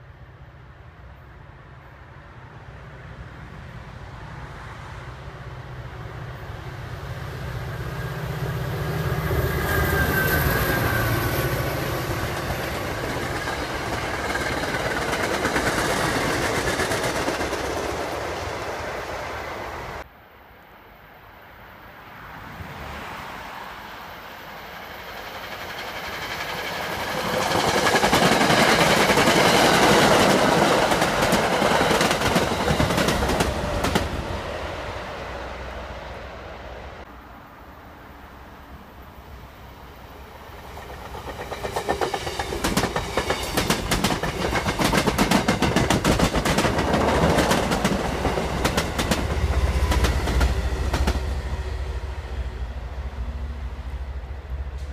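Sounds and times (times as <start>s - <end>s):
passenger train passing: 0.0s - 54.9s
wheels rumbling on rail: 0.2s - 20.1s, 22.1s - 54.9s.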